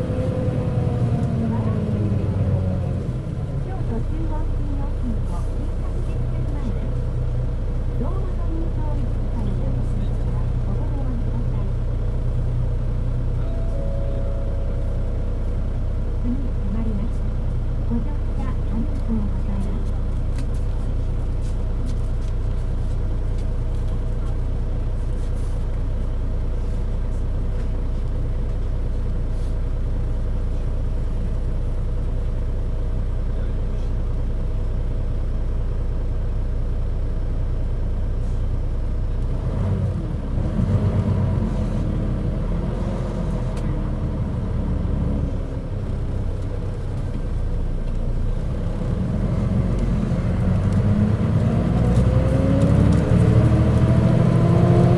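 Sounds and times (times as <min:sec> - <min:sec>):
bus engine running rough: 0:00.0 - 0:54.9.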